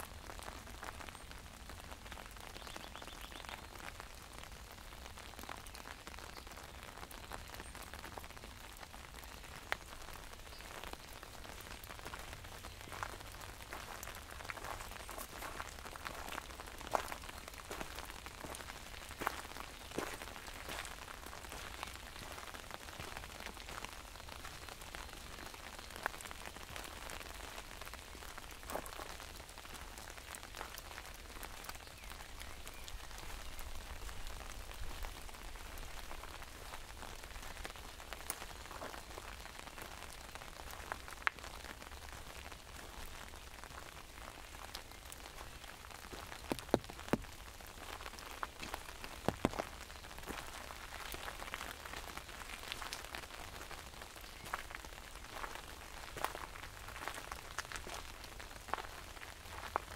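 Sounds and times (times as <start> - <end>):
rain on an umbrella: 0.0 - 59.9.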